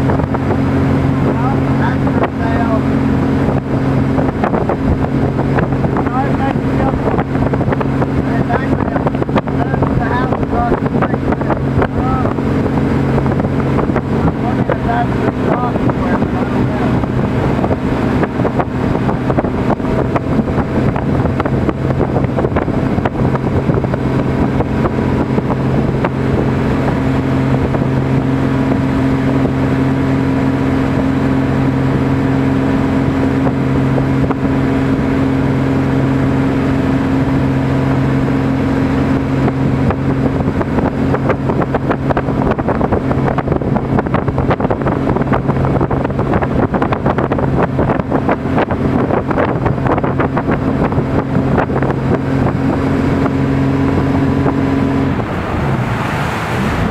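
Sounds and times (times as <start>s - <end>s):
motorboat engine drone: 0.0s - 56.9s
rushing water: 0.0s - 56.9s
wind on microphone: 0.0s - 56.9s.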